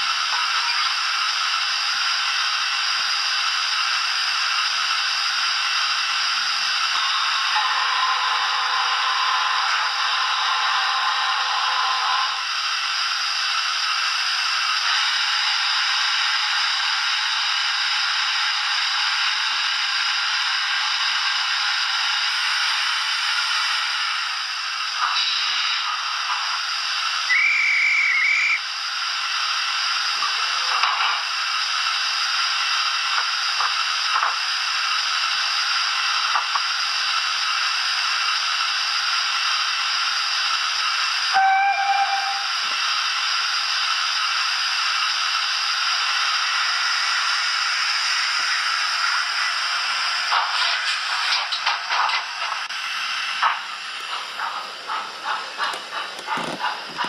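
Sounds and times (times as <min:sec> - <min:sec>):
steam hiss: 0:00.0 - 0:57.0.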